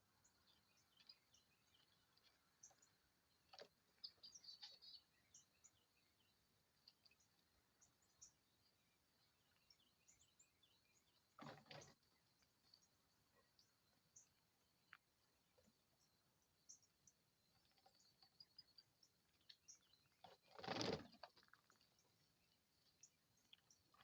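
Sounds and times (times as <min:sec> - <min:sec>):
faint songbird chirping: 0:00.0 - 0:24.0.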